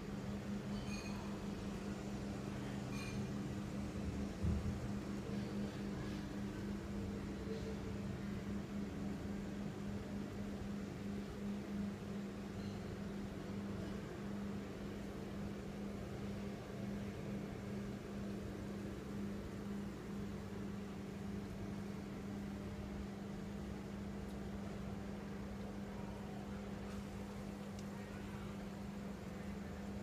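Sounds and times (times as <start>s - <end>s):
aquarium filter pump humming: 0.0s - 30.0s.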